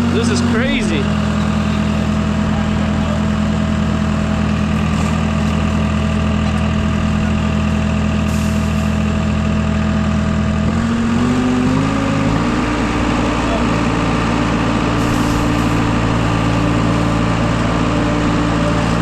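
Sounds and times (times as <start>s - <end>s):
work machine engine running: 0.0s - 19.0s.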